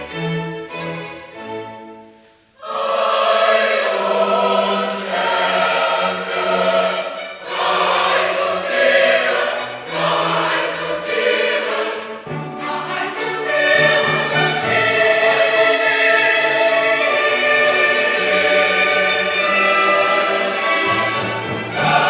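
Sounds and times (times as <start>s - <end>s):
choir singing sustained chords: 0.8s - 22.0s.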